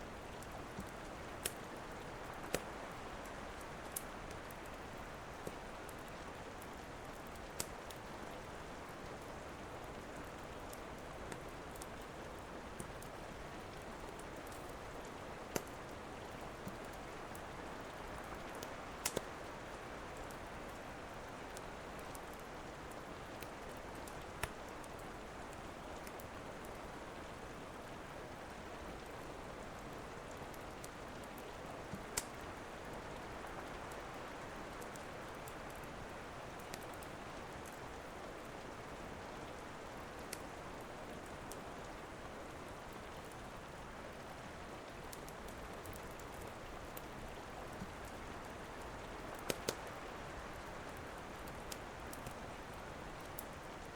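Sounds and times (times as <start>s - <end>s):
rain falling: 0.0s - 53.9s
wood fire crackles: 0.0s - 53.9s.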